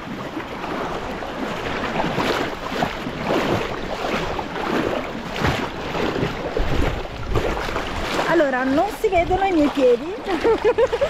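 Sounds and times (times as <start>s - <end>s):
person wading: 0.0s - 11.0s
seawater sloshing and splashing: 0.0s - 11.0s
wind buffeting microphone: 0.0s - 11.0s.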